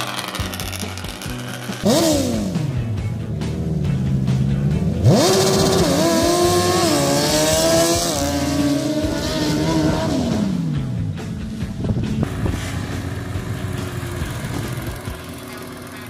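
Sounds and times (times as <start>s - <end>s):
quad engine revving: 0.0s - 11.1s, 12.2s - 16.0s.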